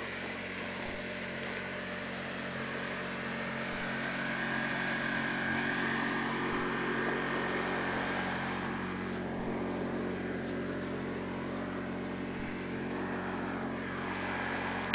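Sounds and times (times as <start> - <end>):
engine droning: 0.0 - 14.9.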